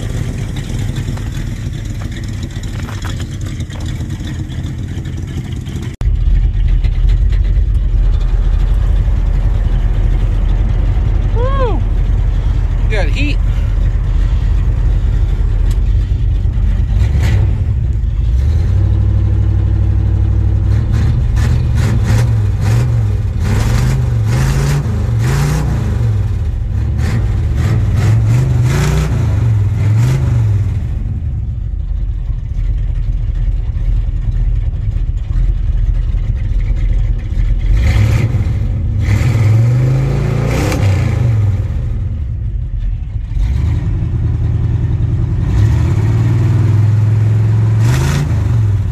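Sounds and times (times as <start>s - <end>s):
truck engine revving and idling: 0.0s - 48.9s.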